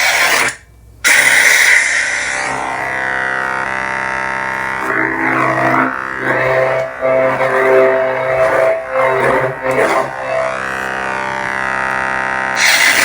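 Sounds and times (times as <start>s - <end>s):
lightsaber electric hum: 1.8s - 13.0s.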